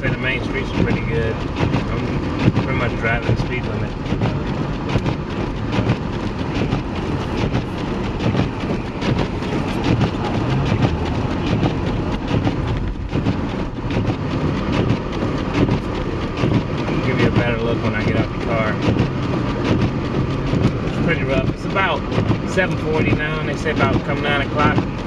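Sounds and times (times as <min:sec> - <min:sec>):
low road rumble inside car: 0:00.0 - 0:25.0.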